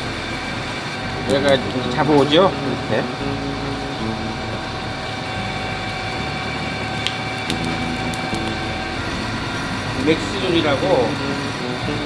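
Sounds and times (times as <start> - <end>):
rubber mill humming: 0.0 - 12.0.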